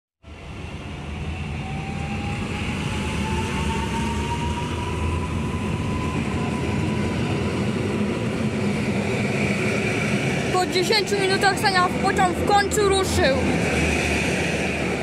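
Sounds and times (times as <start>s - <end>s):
electric train whine: 0.2s - 15.0s
train rumble: 0.2s - 15.0s.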